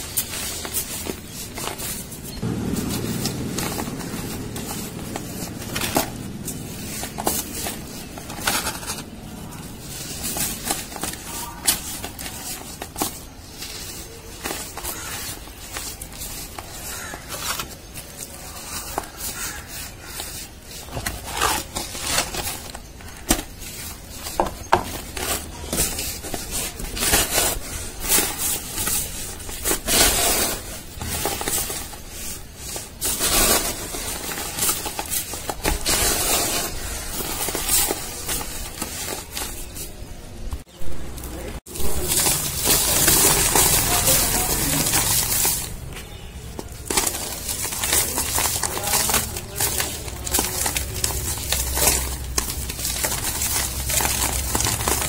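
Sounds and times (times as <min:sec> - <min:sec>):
cardboard crunching and tearing: 0:00.0 - 0:55.0.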